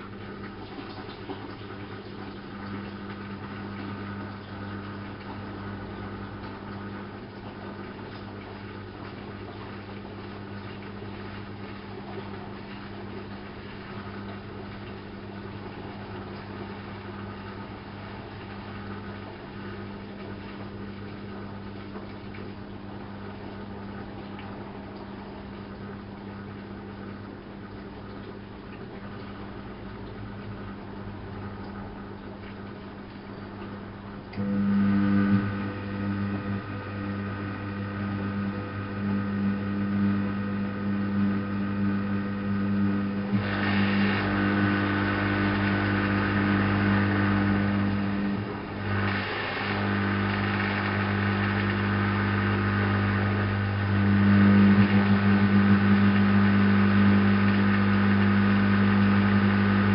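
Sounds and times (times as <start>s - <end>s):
running water: 0.0s - 59.9s
washing machine humming: 0.0s - 59.9s.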